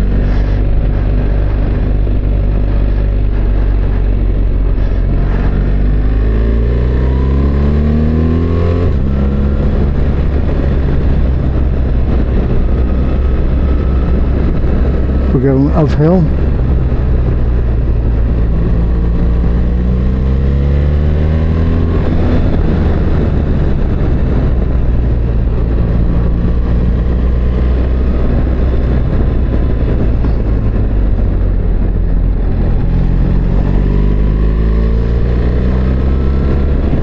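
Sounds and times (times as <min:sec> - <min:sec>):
low rumble: 0:00.0 - 0:37.0
motorcycle engine accelerating: 0:00.0 - 0:37.0.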